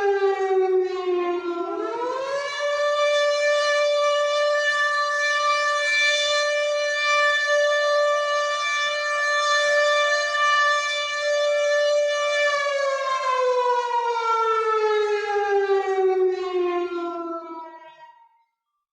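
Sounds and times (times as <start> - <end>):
air raid siren wailing: 0.0 - 18.3.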